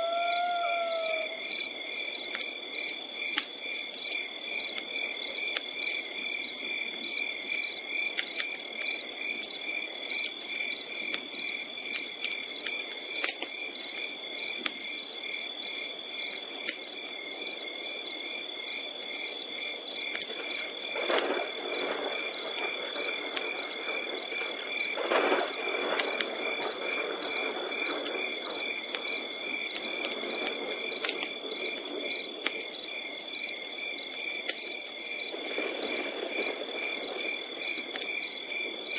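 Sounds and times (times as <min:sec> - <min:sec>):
campfire crackling: 0:00.0 - 0:38.9
crickets chirping: 0:00.0 - 0:38.9.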